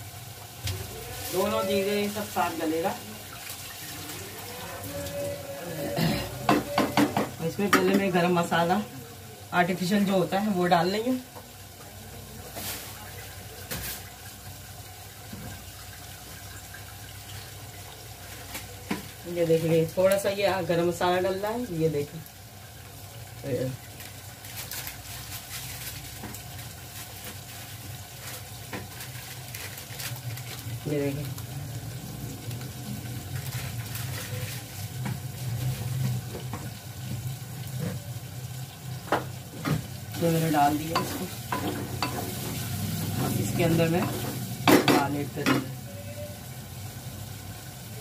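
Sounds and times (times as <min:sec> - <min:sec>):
pot sizzling on stove: 0:00.0 - 0:48.0.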